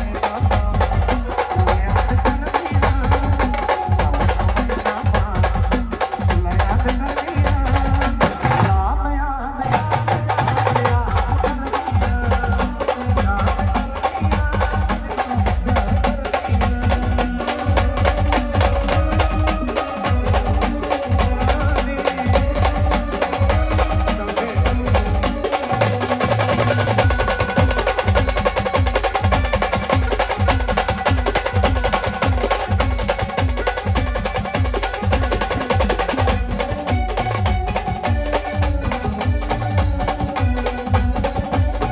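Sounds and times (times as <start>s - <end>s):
fast drum beats: 0.0s - 9.0s, 9.6s - 41.9s.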